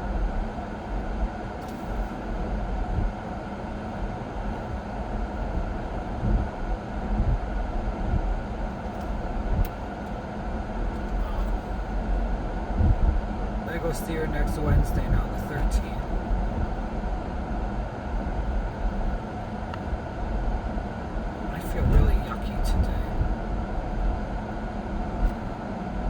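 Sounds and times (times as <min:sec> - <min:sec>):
air conditioning blowing: 0:00.0 - 0:26.0
road and engine noise in car: 0:00.0 - 0:26.0.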